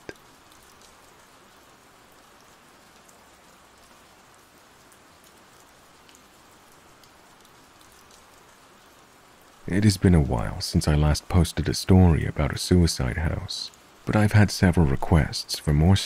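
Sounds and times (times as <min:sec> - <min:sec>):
faint rain falling: 0:00.0 - 0:16.0.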